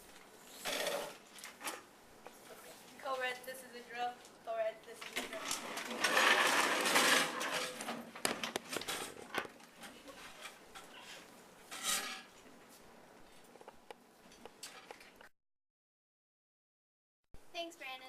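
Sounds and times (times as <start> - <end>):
people rustling and scraping: 0.0 - 4.3, 4.9 - 15.3.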